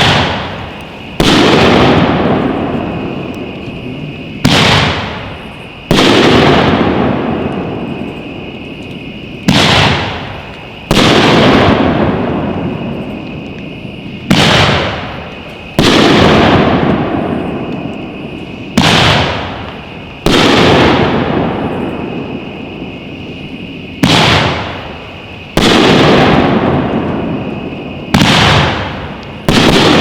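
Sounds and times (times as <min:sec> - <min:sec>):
firework shell bursting overhead: 0:00.0 - 0:23.1, 0:23.9 - 0:30.0.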